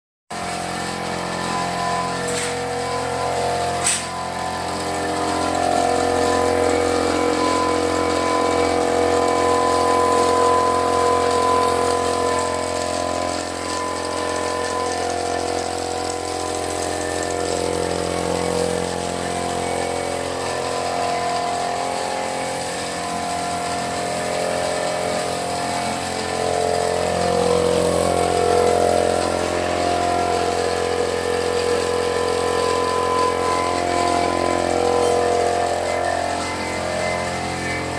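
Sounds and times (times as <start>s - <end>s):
machine humming drone: 0.3s - 37.9s.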